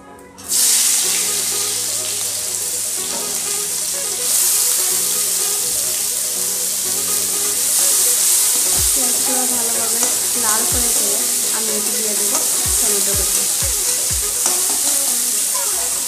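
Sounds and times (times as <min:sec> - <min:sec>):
onions sizzling in hot oil: 0:00.5 - 0:16.0.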